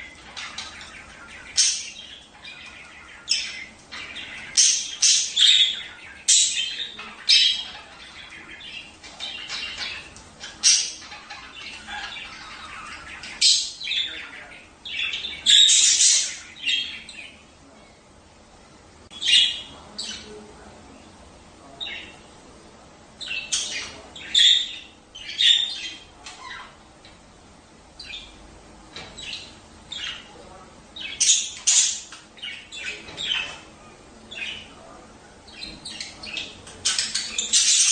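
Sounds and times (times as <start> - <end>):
budgerigars chirping and squawking: 0.0 - 17.5, 19.1 - 20.6, 21.6 - 22.3, 23.2 - 37.9.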